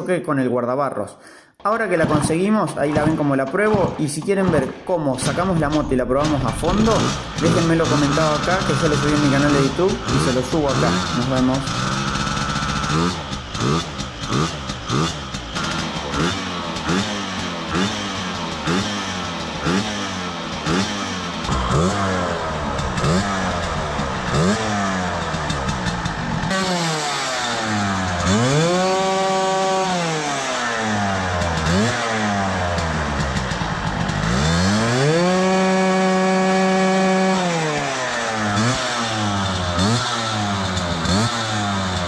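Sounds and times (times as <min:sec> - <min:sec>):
moped engine revving: 0:01.6 - 0:42.0.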